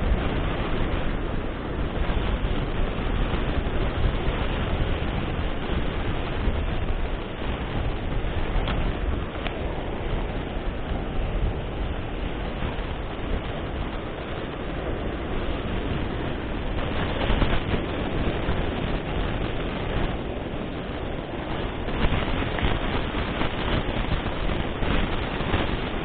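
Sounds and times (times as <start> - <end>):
ocean surf: 0.0 - 26.0
wind rumbling on microphone: 0.0 - 26.0.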